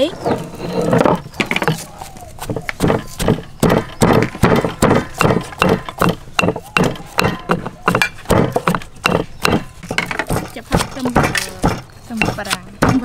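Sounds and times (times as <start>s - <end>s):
pestle pounding in stone mortar: 1.0s - 13.0s.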